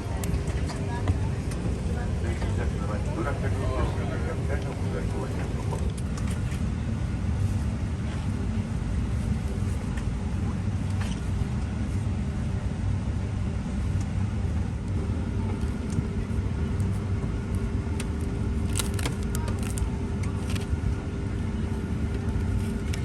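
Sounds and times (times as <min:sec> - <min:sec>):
cabin air system rumble: 0:00.0 - 0:23.0.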